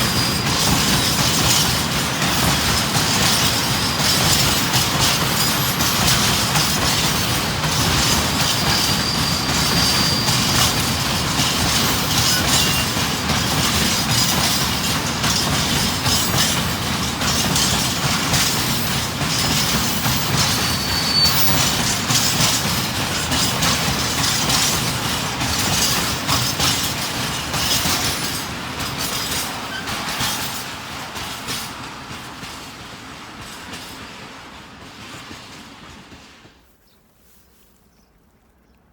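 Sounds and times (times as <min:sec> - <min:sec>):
train wheel squeals: 0:00.0 - 0:32.6
train wheels clattering on rails: 0:00.0 - 0:36.7.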